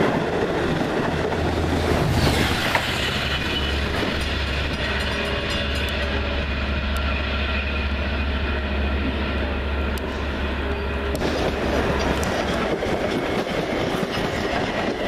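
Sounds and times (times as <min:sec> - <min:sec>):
train passing with low hum: 0:00.0 - 0:15.0.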